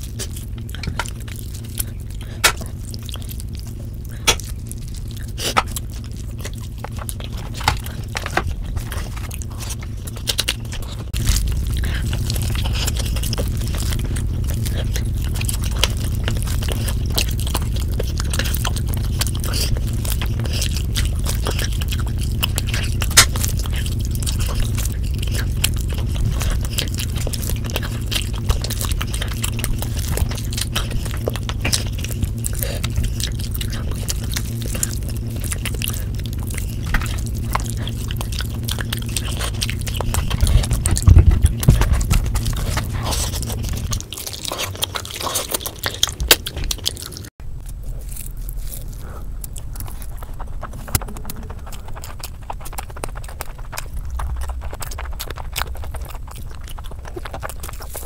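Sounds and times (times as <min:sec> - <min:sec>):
wet mouth clicks: 0:00.0 - 0:47.8, 0:48.4 - 0:58.0
chewing and biting food: 0:00.0 - 0:58.0
steady low hum: 0:00.0 - 0:58.0.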